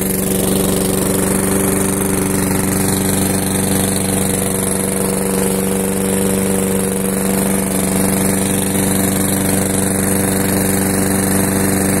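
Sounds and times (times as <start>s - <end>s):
lawn mower engine droning: 0.0s - 12.0s.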